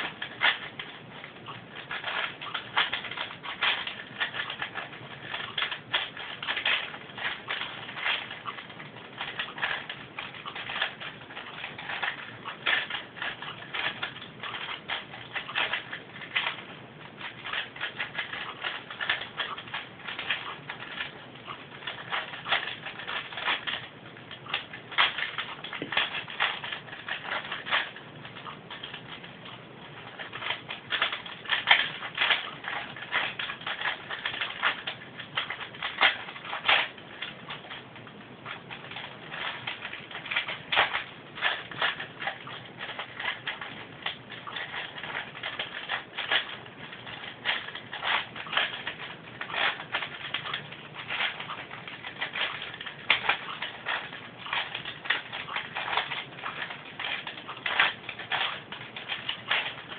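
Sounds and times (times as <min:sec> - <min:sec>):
puzzle cube clicking as twisted: 0:00.0 - 0:59.9.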